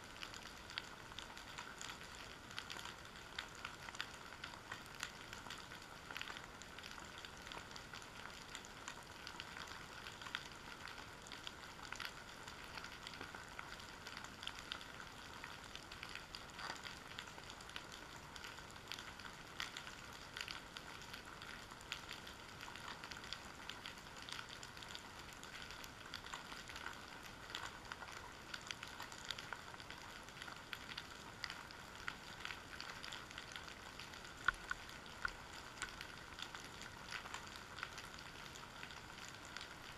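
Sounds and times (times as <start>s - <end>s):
crackling underwater clicks: 0.0s - 39.9s.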